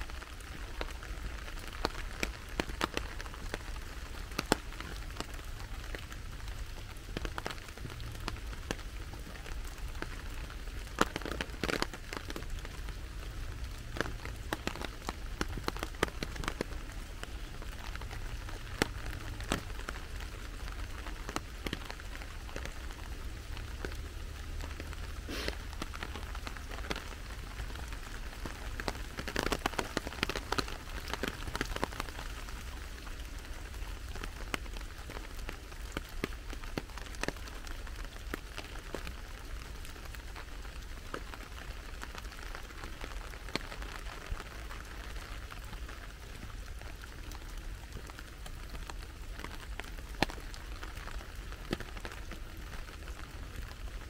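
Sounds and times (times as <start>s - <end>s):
sharp taps of raindrops: 0.0s - 54.0s
steady rain falling: 0.0s - 54.0s.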